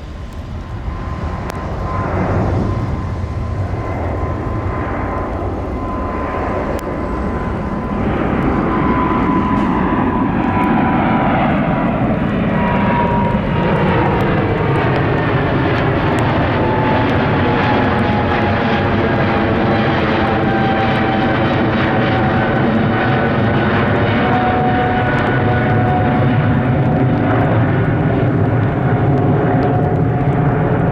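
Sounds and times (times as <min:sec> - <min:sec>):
jet engines whining: 0:00.0 - 0:30.9.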